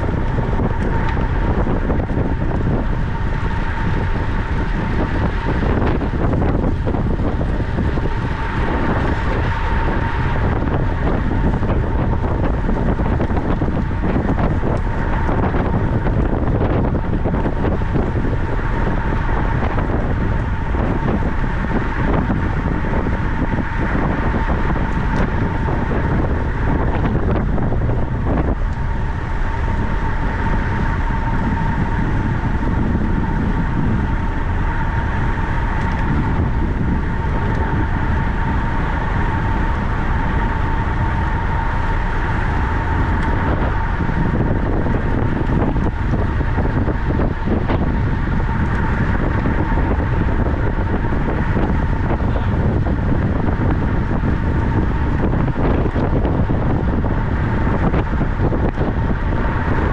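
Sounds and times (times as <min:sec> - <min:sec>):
low rolling noise: 0:00.0 - 0:59.9
thin high whine: 0:00.0 - 0:59.9
wind rushing over microphone: 0:00.0 - 0:59.9.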